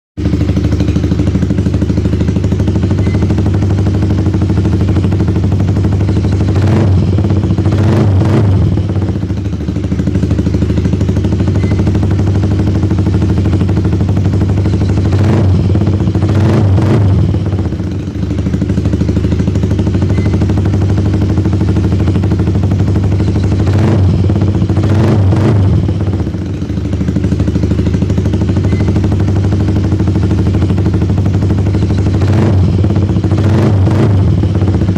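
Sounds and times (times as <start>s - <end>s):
motorcycle engine idling and revving: 0.2s - 34.9s.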